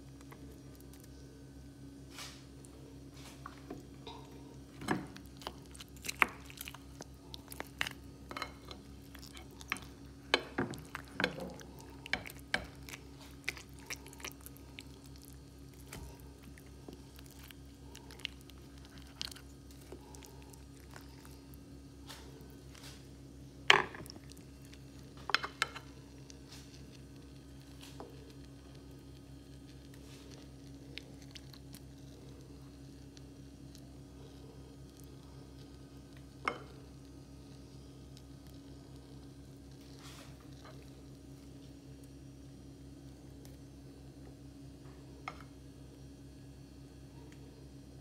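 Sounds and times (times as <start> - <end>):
steady low hum: 0.0 - 48.0
chewing and wet mouth sounds: 2.6 - 23.2, 23.9 - 42.2.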